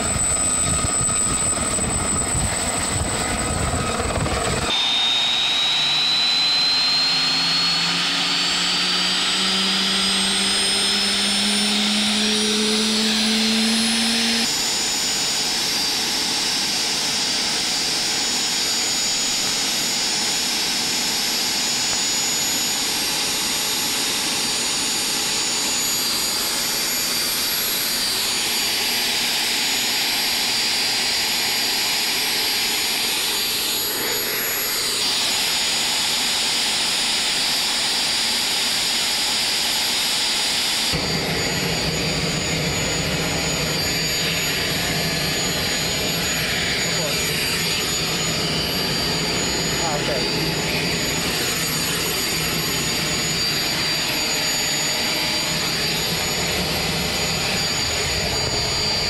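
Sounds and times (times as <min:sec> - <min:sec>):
helicopter turbine engine whine: 0:00.0 - 0:59.0.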